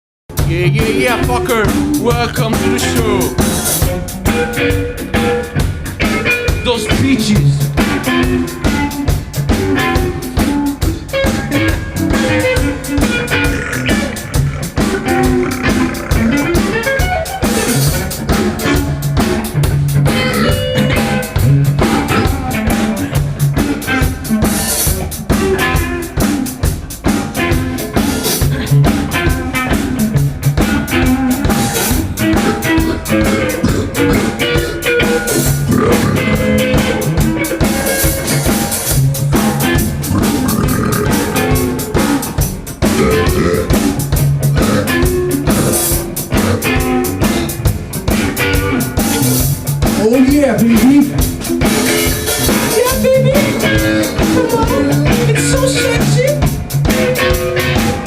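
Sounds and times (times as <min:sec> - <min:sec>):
drum kit and guitar music: 0:00.3 - 0:58.0.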